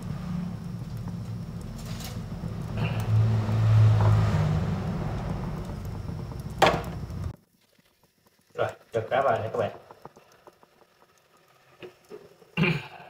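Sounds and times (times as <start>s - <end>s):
induction cooktop humming: 0.0s - 13.0s.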